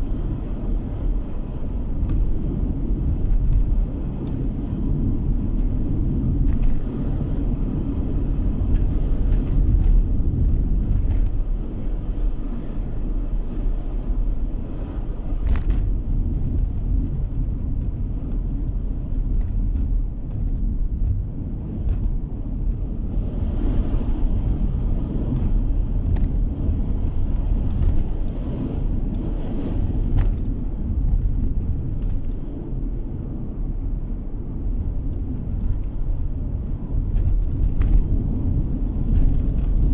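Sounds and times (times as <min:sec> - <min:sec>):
light clicks: 0:00.0 - 0:23.0, 0:23.6 - 0:33.2
car road noise inside cabin: 0:00.0 - 0:39.9.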